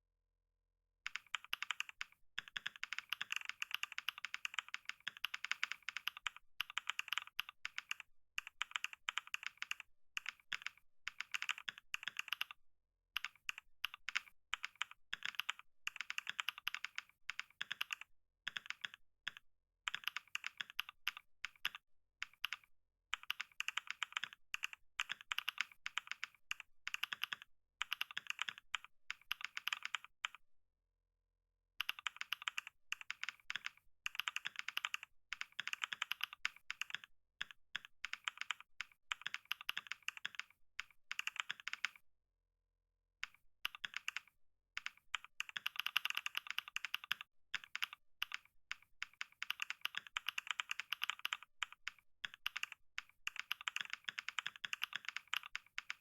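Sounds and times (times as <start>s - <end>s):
fast keyboard typing: 1.1s - 12.6s, 13.2s - 30.4s, 31.8s - 42.0s, 43.2s - 56.0s.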